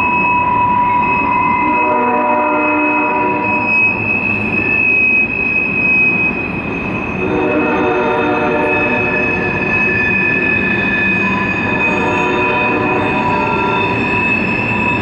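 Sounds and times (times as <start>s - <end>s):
high-pitched wheel squeal: 0.0s - 15.0s
train wheels rumbling: 0.0s - 15.0s.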